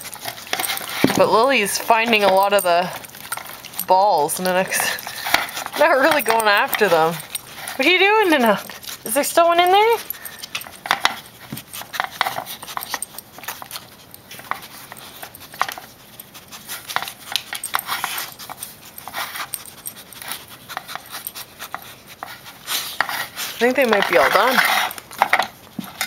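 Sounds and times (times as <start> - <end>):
dog sniffing: 0.0 - 25.9.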